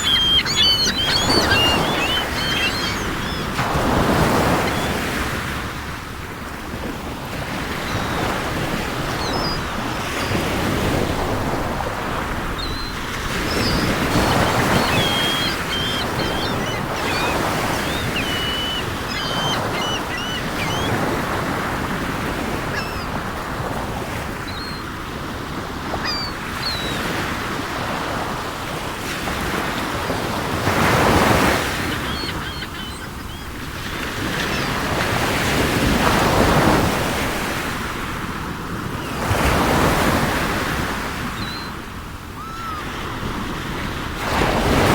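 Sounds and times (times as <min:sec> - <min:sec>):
seagulls calling: 0:00.0 - 0:05.6, 0:07.4 - 0:28.3, 0:29.3 - 0:37.2, 0:38.9 - 0:43.7
sea waves washing: 0:00.0 - 0:44.9.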